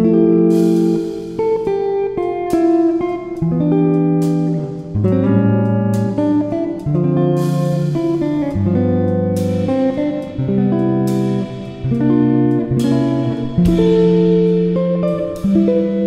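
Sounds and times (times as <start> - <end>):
plucked guitar tune: 0.0 - 16.0.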